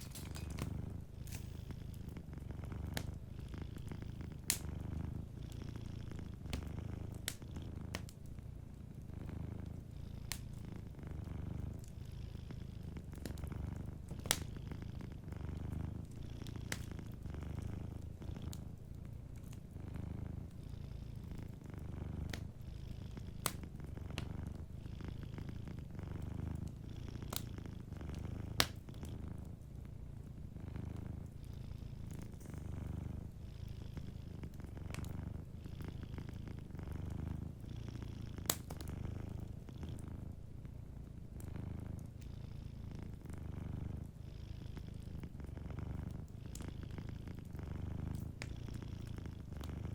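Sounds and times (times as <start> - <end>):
cat purring: 0.0 - 49.9
fireplace fire crackling: 0.0 - 49.9.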